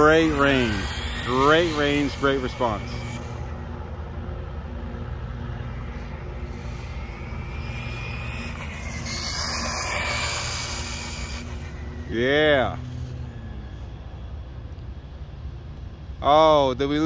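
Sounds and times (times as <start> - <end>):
electric motor whine: 0.0 - 16.2
low rumble: 0.0 - 16.2
tyres hissing on asphalt: 0.0 - 17.0.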